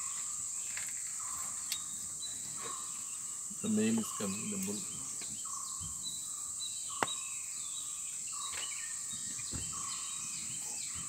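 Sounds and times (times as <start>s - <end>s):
birds calling: 0.0s - 11.0s
insect chorus: 0.0s - 11.0s.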